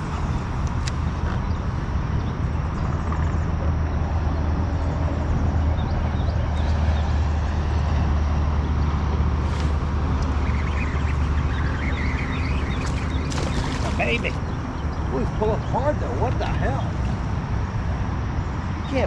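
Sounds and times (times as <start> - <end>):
low engine-like drone: 0.0 - 19.0
outdoor hum: 0.0 - 19.0.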